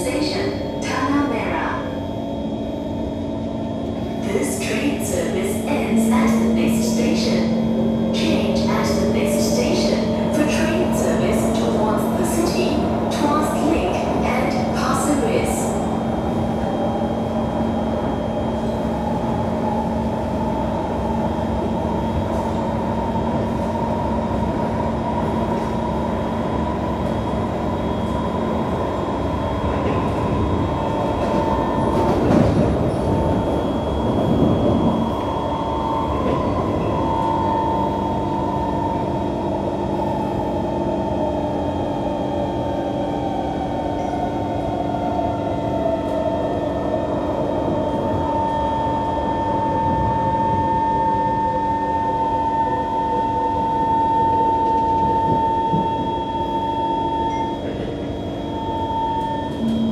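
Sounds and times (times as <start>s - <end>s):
train wheels rumbling on rail: 3.1s - 50.8s, 57.6s - 59.9s.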